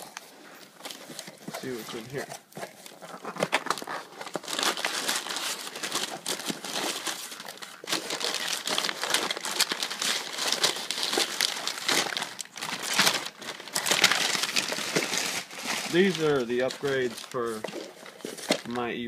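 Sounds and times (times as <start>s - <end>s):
packing paper crumpling: 0.0s - 19.0s.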